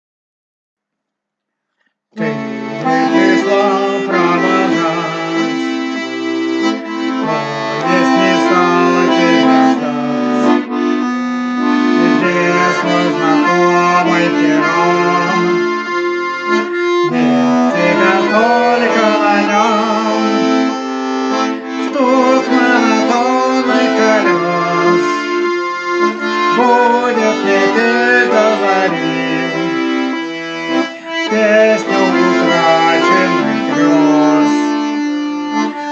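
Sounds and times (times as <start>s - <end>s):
accordion melody with bass chords: 2.1s - 35.9s.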